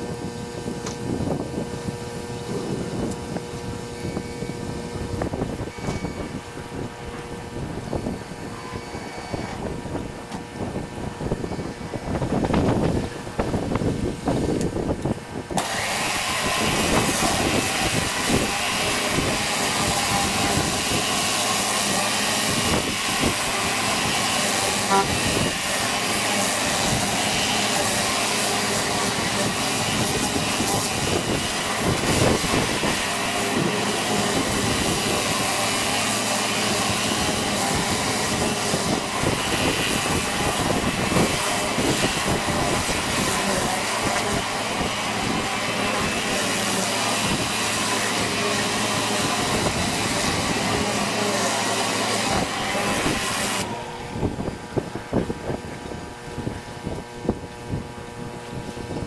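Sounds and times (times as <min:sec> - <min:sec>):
pressure washer spraying: 0:05.3 - 0:53.9.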